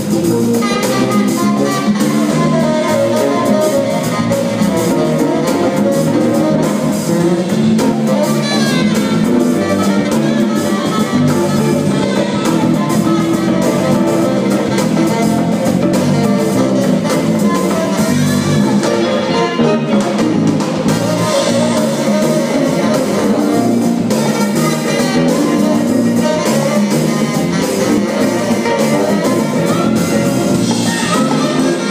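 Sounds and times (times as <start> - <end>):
congas: 0.0 - 31.9
drum kit: 0.0 - 31.9
electric bass: 0.0 - 31.9
electric guitar: 0.0 - 31.9.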